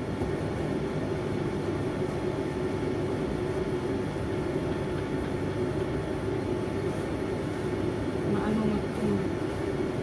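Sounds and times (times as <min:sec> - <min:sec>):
steady low rumbling hum: 0:00.0 - 0:10.0.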